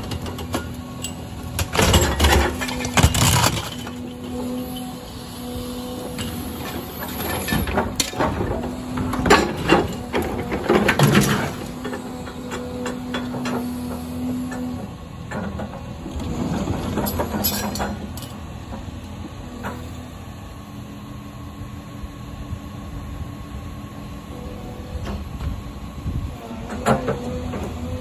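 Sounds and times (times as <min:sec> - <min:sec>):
hydraulic whine: 0:00.0 - 0:20.7, 0:22.9 - 0:28.0
excavator diesel engine running: 0:00.0 - 0:28.0.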